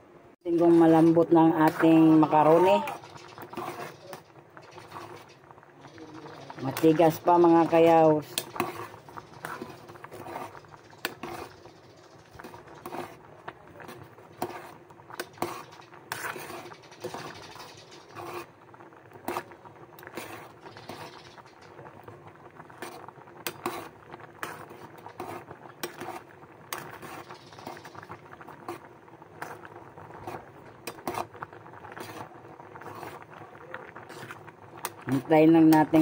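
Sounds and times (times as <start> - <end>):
water boiling in a pot: 0.4 - 36.0.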